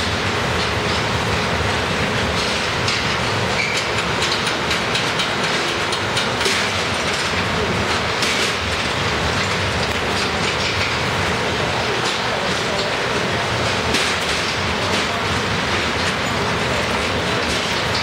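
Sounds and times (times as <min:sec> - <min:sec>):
loud machinery noise: 0:00.0 - 0:18.0.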